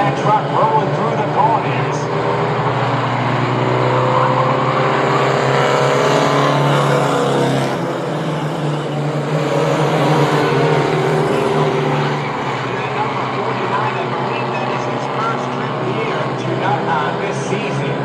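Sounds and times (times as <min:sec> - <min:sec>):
racing truck engines: 0:00.0 - 0:18.0.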